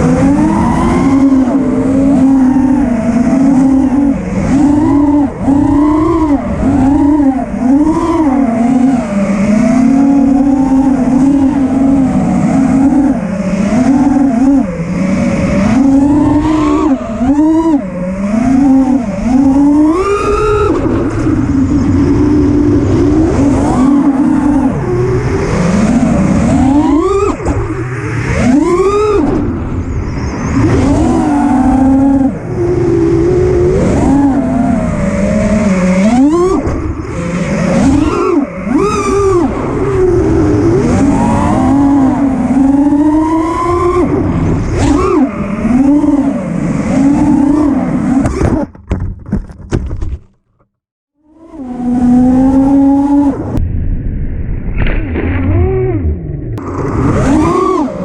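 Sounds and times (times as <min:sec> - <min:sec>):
quadcopter motors whining: 0:00.0 - 0:48.3, 0:56.6 - 0:58.0
wind rush on microphone: 0:00.0 - 0:48.7.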